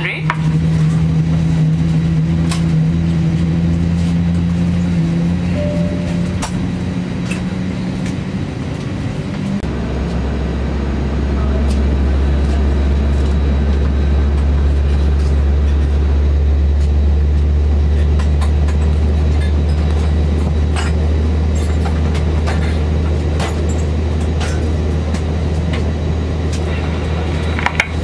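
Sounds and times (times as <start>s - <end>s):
airplane cabin drone: 0.0s - 28.0s.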